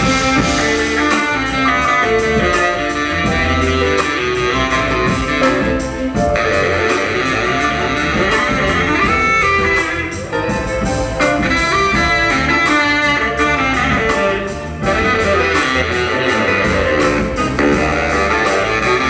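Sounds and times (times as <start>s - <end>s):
electric guitar: 0.0s - 19.0s
horns: 0.0s - 19.0s
soul band playing: 0.0s - 19.0s
steady drum beat: 0.0s - 19.0s.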